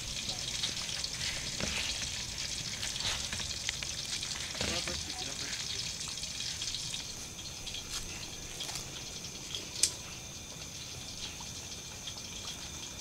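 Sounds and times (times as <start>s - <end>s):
meat frying in oil: 0.0s - 13.0s.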